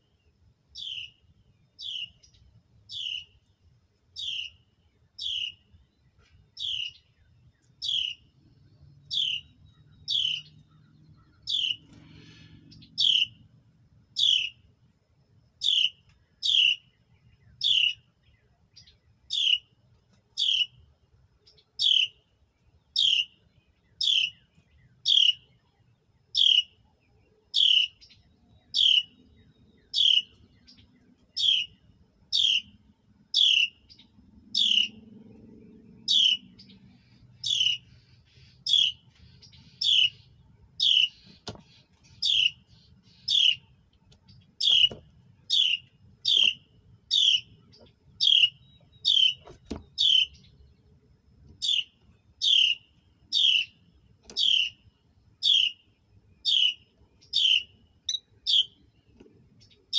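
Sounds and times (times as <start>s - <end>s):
songbird calling: 0.0s - 59.9s.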